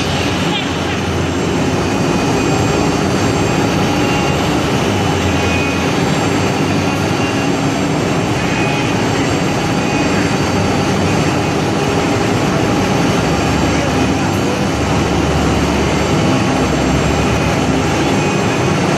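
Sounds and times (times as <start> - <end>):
low hum: 0.0 - 18.9.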